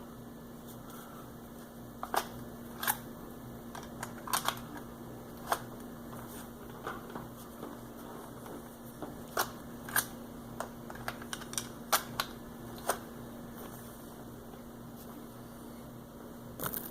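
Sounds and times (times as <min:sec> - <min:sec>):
small electric fan humming: 0:00.0 - 0:16.9.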